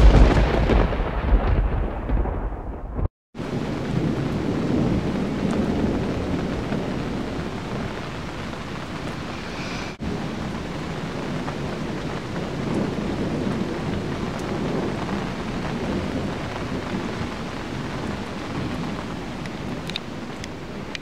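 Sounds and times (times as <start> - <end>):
steady rain: 0.0 - 2.3, 3.4 - 21.0
rolling thunder: 0.0 - 20.8.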